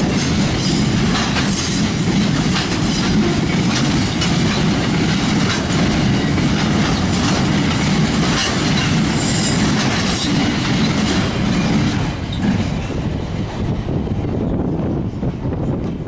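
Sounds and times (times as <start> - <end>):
wheels clicking over rail joints: 0.0 - 13.0.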